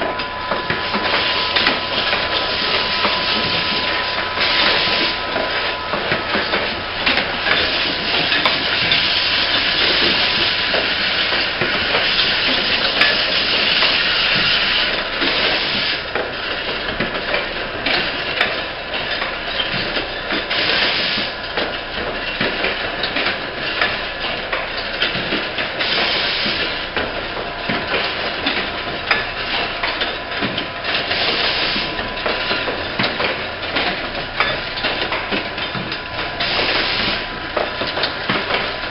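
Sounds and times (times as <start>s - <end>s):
machine clattering: 0.0s - 38.9s.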